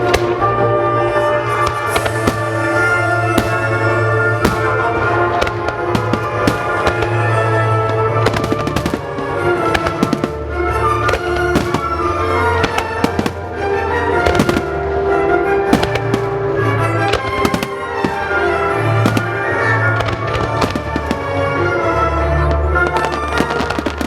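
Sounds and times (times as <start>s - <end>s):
fireworks bursting: 0.0s - 21.8s, 22.6s - 24.0s.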